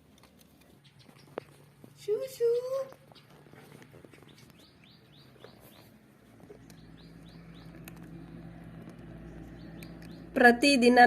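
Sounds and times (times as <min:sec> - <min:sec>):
small bird chirping: 0:00.5 - 0:10.5.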